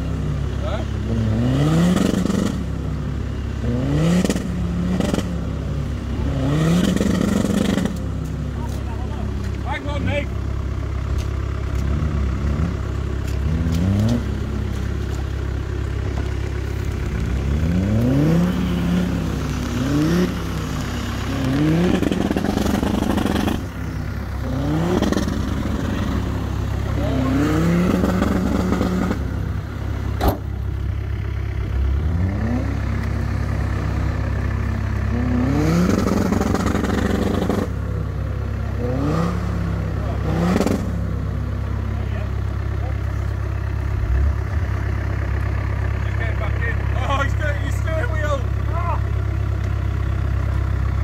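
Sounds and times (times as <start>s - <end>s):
engine revving: 0.0s - 10.3s, 11.7s - 50.5s.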